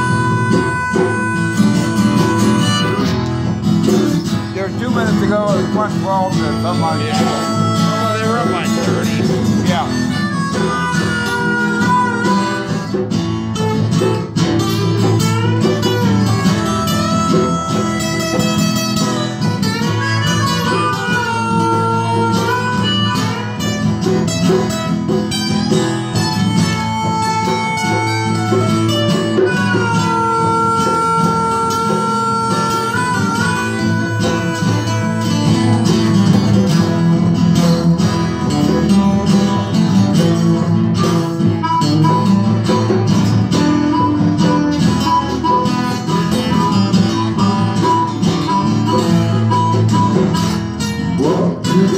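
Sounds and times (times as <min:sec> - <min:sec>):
amplified harmonica: 0:00.0 - 0:51.9
strummed acoustic guitars: 0:00.0 - 0:51.9.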